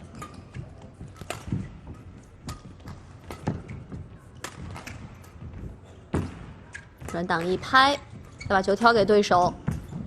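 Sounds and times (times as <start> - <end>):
rackets striking shuttlecock: 0.0 - 8.4.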